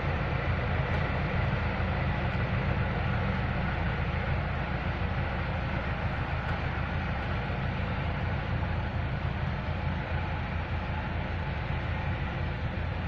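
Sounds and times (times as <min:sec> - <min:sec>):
low diesel engine rumble: 0:00.0 - 0:13.0.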